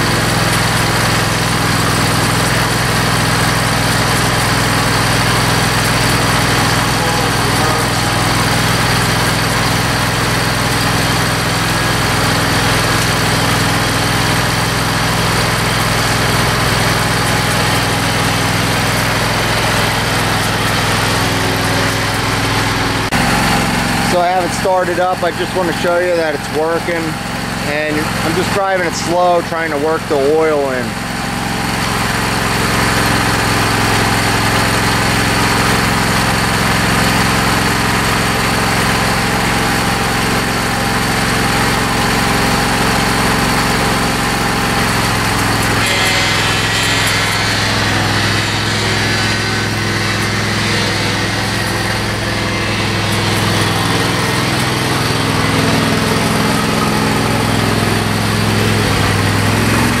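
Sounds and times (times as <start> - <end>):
lawn tractor engine running: 0.0 - 60.0.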